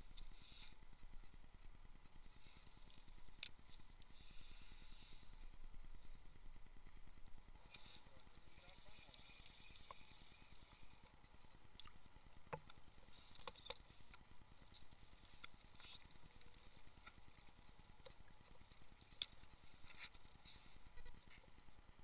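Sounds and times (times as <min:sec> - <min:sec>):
faint clicks and ticks: 0:00.0 - 0:22.0.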